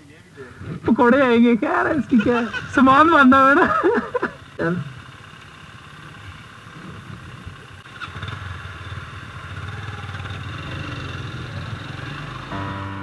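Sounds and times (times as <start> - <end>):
small motorcycle engines running: 1.9 - 13.0.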